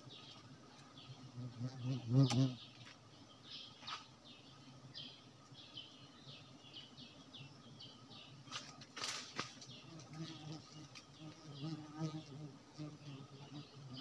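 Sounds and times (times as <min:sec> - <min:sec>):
rustle of leaves and branches: 0:00.0 - 0:14.0.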